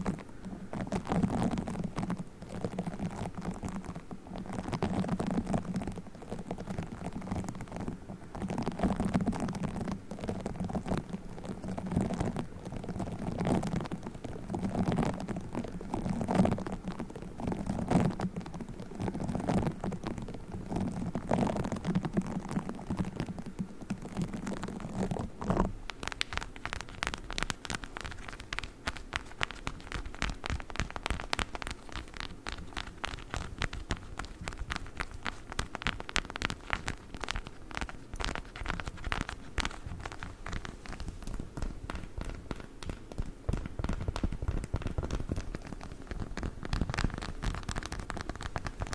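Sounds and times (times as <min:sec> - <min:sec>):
rapid crackle of taps and scratches: 0:00.0 - 0:48.9.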